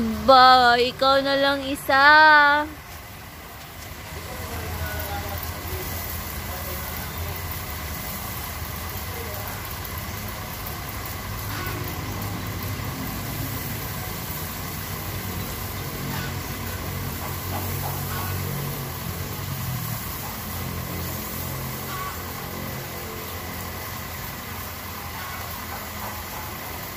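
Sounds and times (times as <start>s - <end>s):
machine humming: 0.0s - 25.3s.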